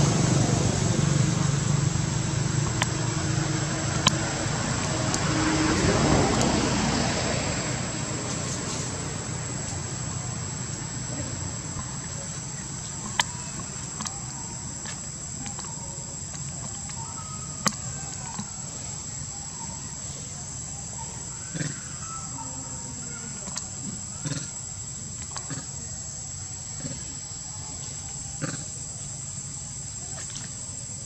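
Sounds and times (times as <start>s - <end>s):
low background rumble: 0.0s - 31.0s
high-pitched insect drone: 0.4s - 31.0s.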